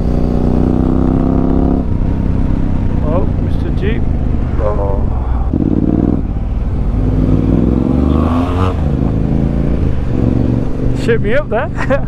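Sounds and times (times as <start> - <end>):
motorcycle engine running: 0.0 - 12.0
passing vehicle engine: 0.0 - 12.0.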